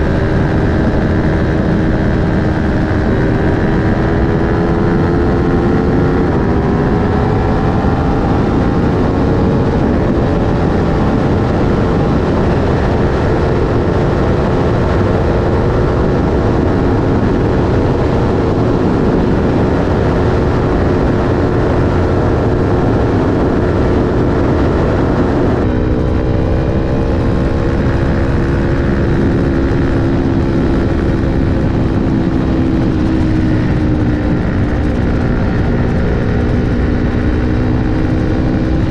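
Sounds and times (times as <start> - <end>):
heavy wind rush: 0.0 - 38.9
motorcycle engine pulling hard: 0.0 - 38.9.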